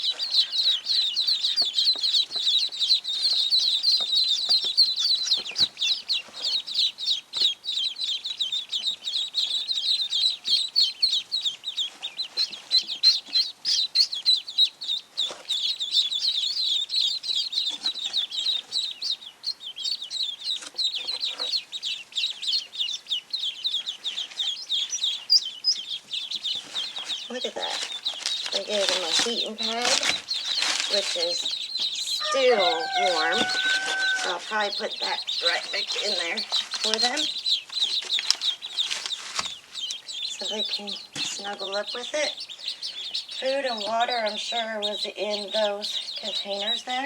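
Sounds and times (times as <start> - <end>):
ducklings peeping: 0.0 - 47.0.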